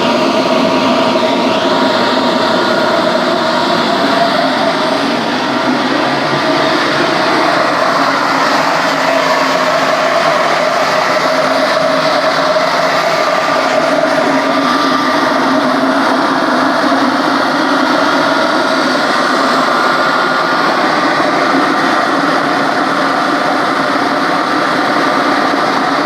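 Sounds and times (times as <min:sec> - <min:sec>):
kiln mechanical noise: 0:00.0 - 0:26.0.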